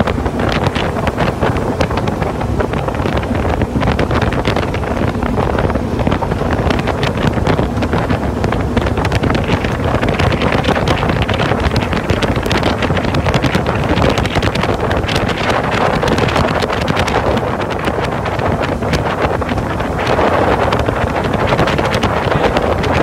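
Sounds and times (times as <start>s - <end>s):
outboard motor running: 0.0s - 23.0s
wind buffeting microphone: 0.0s - 23.0s.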